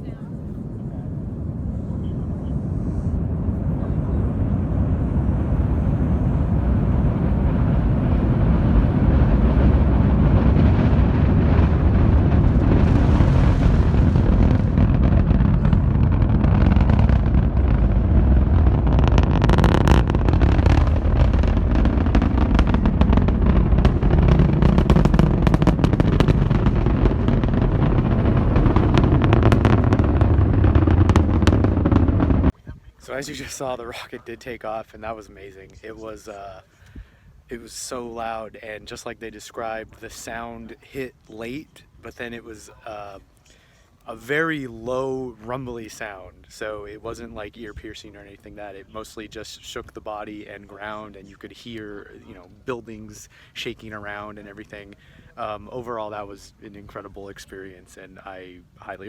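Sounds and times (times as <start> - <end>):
rocket crackling: 0.0 - 36.6, 37.6 - 59.0
distant rocket launch rumble: 0.0 - 43.3, 44.1 - 59.0.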